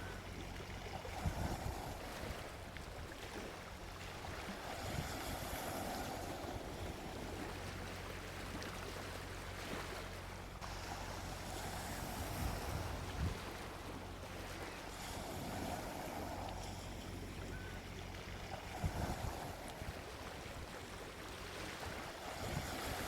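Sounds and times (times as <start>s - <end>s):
sea waves washing onto beach: 0.0s - 23.0s.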